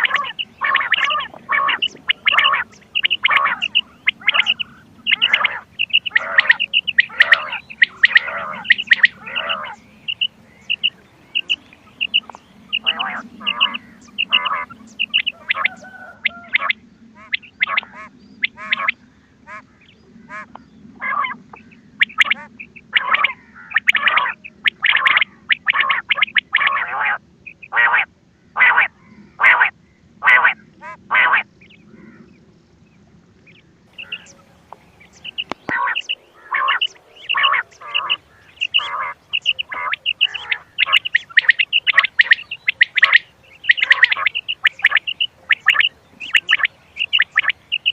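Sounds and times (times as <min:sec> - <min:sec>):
recorded quail calls: 0:00.0 - 0:32.4, 0:33.4 - 0:47.9
faint low hum: 0:00.0 - 0:47.9.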